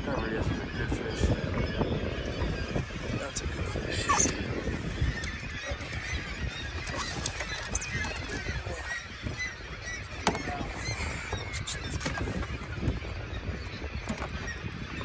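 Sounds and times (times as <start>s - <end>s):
birds calling: 0.0s - 15.0s
wind and water rushing: 0.0s - 15.0s.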